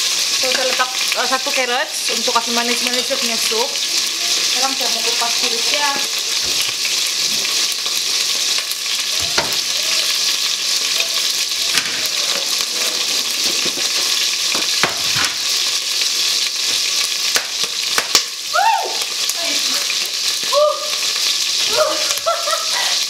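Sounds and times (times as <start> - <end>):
chicken sizzling in a pan: 0.0 - 23.0.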